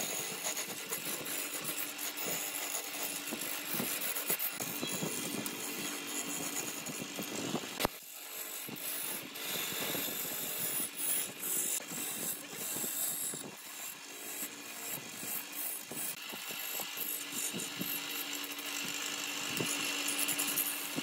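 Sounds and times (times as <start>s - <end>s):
gouge scraping spinning wood: 0.0s - 21.0s.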